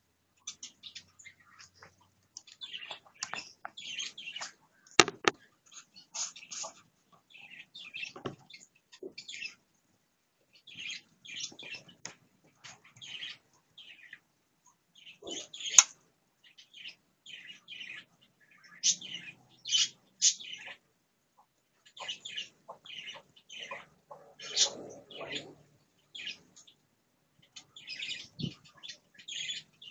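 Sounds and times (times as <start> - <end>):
birds chirping: 0.4 - 9.7, 10.5 - 14.3, 14.9 - 29.9.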